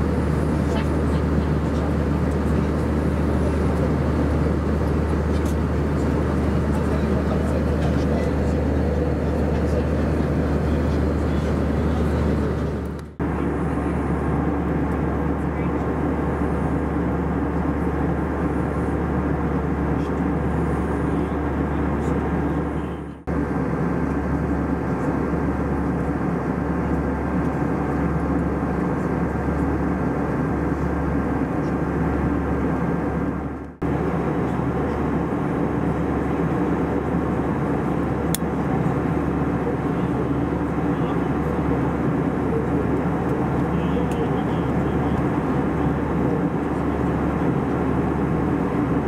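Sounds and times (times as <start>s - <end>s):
airplane cabin drone: 0.0s - 49.0s.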